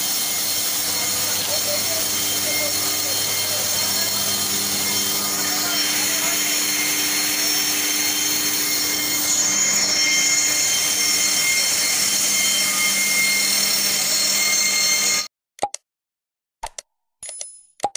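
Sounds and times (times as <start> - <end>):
faint whistling tones: 0.4 - 15.1.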